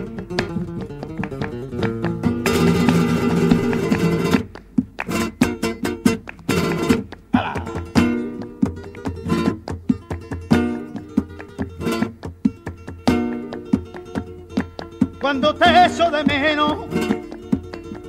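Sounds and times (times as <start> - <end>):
flamenco guitar: 0.0 - 18.0
sharp handclaps: 0.0 - 18.0.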